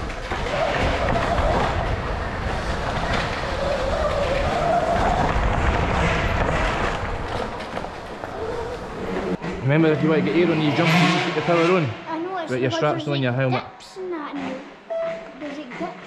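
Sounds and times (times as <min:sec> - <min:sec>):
rumbling rattle over track: 0:00.0 - 0:12.0, 0:14.3 - 0:16.0.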